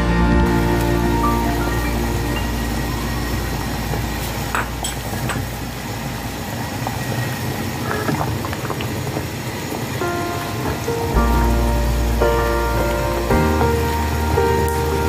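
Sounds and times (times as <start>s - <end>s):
soup boiling and bubbling: 2.1s - 15.0s.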